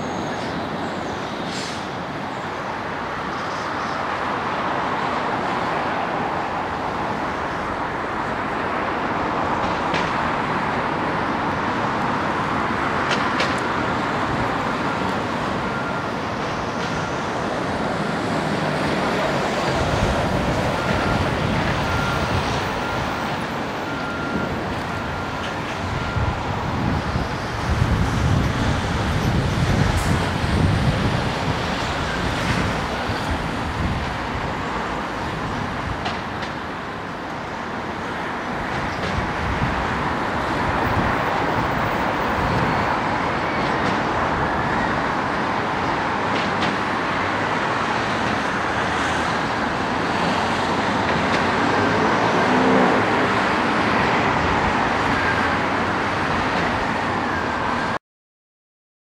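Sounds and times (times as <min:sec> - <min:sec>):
cars driving slowly: 0:00.0 - 0:58.0.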